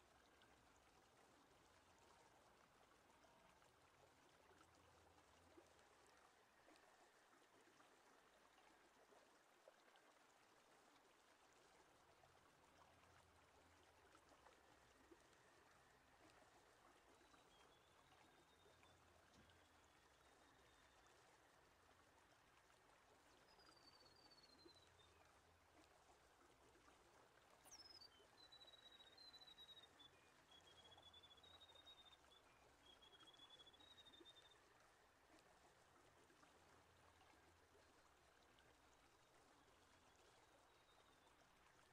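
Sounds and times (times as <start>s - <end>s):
faint steady hiss: 0.0s - 41.9s.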